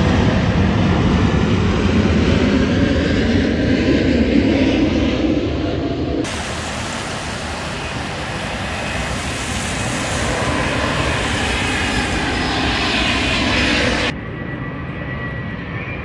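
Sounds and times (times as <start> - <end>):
jet airliner engine roar: 0.0 - 16.0.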